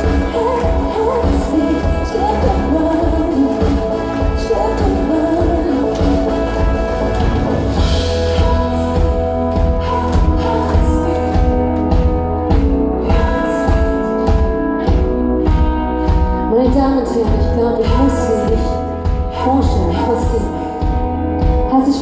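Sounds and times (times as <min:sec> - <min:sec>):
live pop music: 0:00.0 - 0:22.0
person singing: 0:00.0 - 0:22.0.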